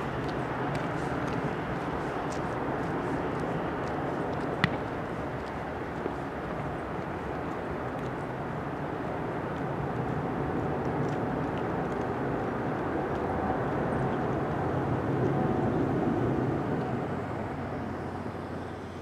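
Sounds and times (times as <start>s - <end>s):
jet climbing after takeoff: 0.0s - 19.0s.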